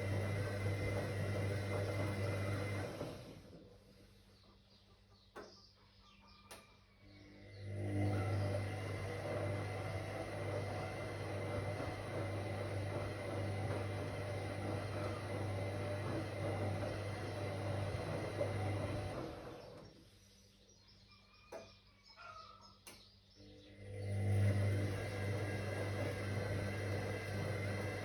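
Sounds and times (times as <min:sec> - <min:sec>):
washing machine motor hum: 0:00.0 - 0:04.3, 0:07.0 - 0:20.6, 0:23.3 - 0:28.0.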